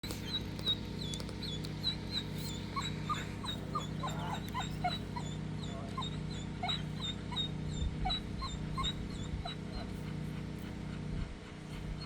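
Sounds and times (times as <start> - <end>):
dog whimpering: 0.0 - 12.0
steady low hum: 0.0 - 12.0.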